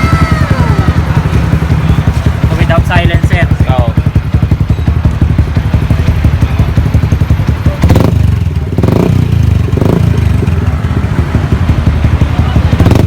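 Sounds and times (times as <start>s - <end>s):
engine revving: 0.0s - 13.0s
motorcycle engine idling: 0.0s - 13.0s.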